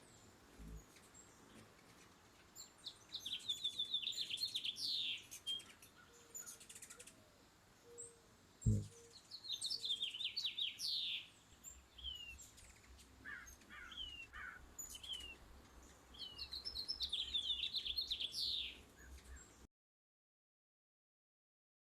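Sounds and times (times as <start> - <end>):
small birds chirping: 0.0 - 19.7.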